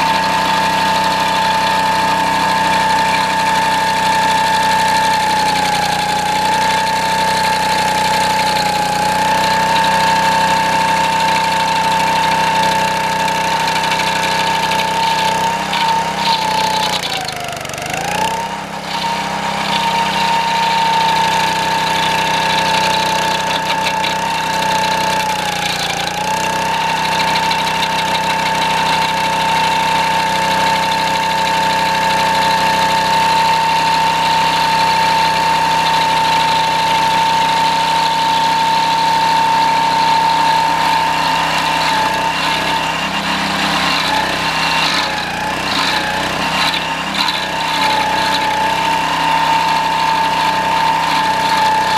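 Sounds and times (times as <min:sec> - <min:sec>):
small engine running at high speed: 0:00.0 - 0:51.9.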